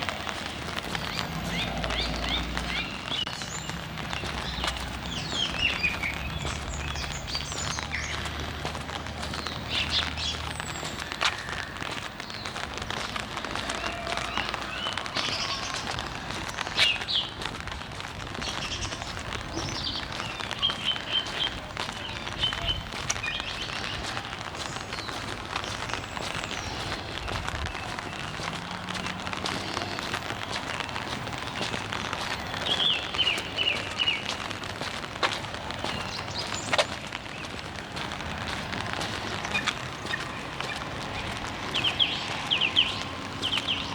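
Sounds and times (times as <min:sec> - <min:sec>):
birds chirping: 0:00.0 - 0:43.9
rain hiss: 0:00.0 - 0:43.9.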